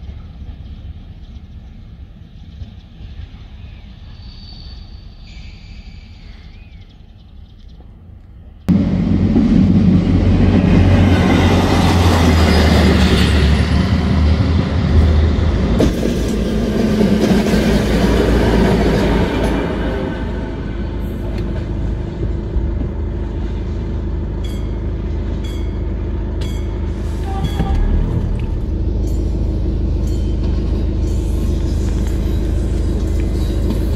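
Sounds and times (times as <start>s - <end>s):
diesel railcar passing: 0.0s - 33.9s.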